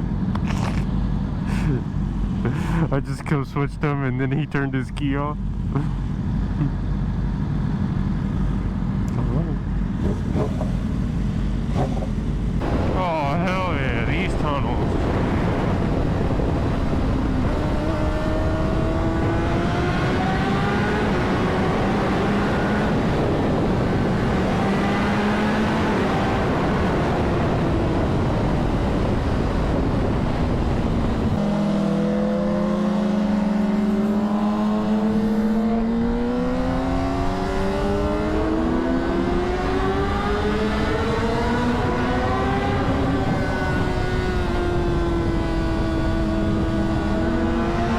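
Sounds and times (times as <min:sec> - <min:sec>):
heavy wind rush: 0:00.0 - 0:47.9
motorcycle engine accelerating: 0:00.0 - 0:47.9.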